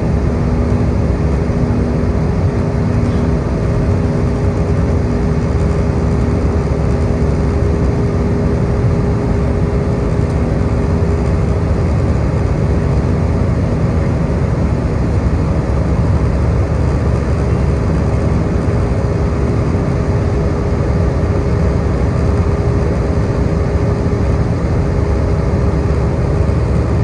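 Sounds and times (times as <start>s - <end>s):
aircraft engines roaring: 0.0s - 27.0s
steady cabin hum: 0.0s - 27.0s.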